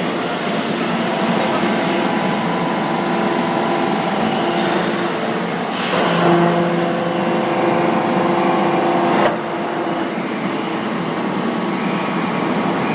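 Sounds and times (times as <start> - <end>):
baling machine running: 0.0 - 12.9
pitched machine hum: 0.0 - 12.9.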